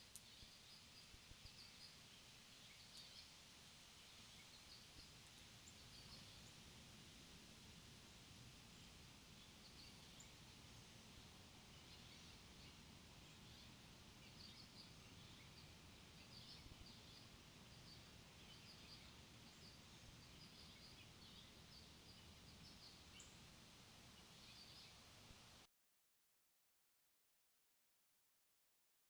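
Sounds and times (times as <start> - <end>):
faint birds chirping: 0.0 - 25.7
steady low background hiss: 0.0 - 25.7.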